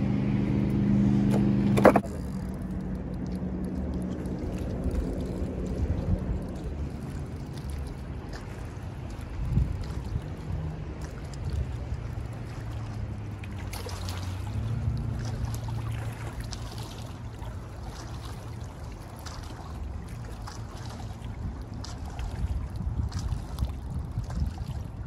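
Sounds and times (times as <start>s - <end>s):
low engine drone: 0.0s - 23.0s
water lapping against rocks: 1.8s - 25.0s.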